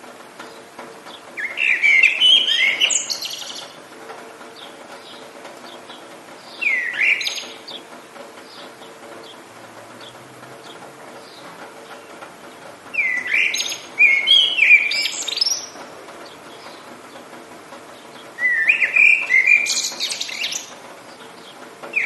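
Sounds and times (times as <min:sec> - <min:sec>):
rain hiss: 0:00.0 - 0:22.0
songbirds singing: 0:00.4 - 0:22.0.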